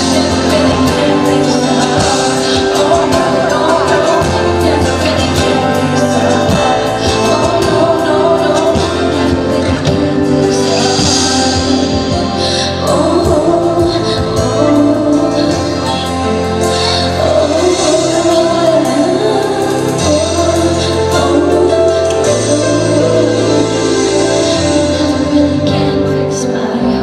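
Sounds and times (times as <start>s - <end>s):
woman singing a pop ballad: 0.0s - 27.0s.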